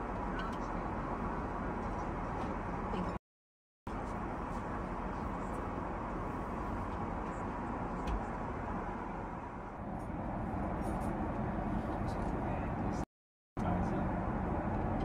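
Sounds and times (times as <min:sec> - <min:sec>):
airplane cabin engine noise: 0:00.0 - 0:03.2, 0:03.9 - 0:15.0.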